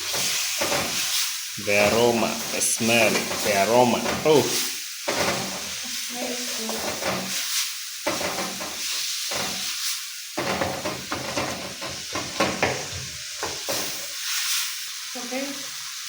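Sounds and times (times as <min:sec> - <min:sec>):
spoon scraping a pan: 0:00.0 - 0:14.8
onions sizzling in oil: 0:00.0 - 0:16.0.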